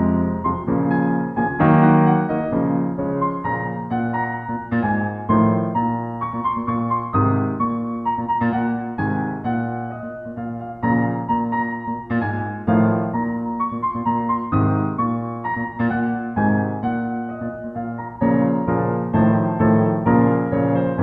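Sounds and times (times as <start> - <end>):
piano playing chords: 0.0 - 21.0.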